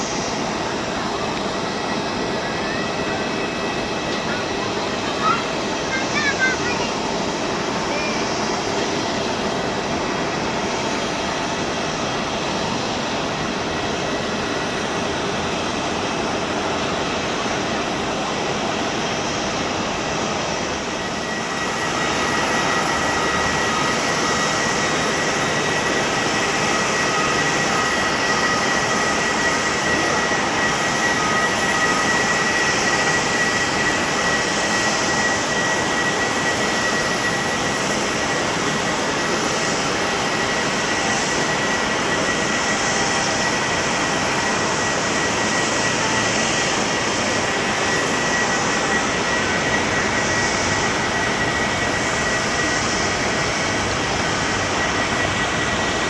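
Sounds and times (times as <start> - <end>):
distant airliner rumble: 0.0 - 56.0
jet engine whine: 0.0 - 56.0.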